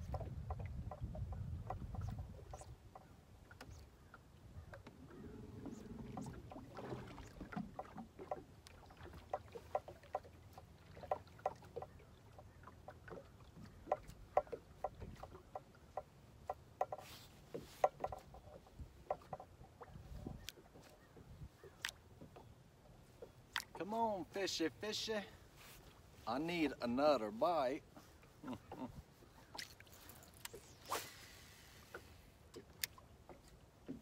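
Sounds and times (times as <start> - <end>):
rumble of wind and water: 0.0 - 34.0
waves slapping boat hull: 0.0 - 34.0.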